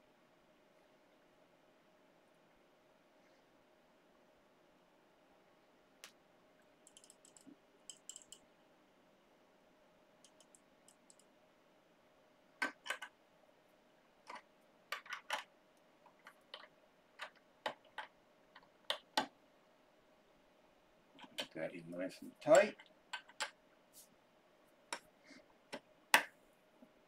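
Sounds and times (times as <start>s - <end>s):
faint fan hum: 0.0s - 27.0s.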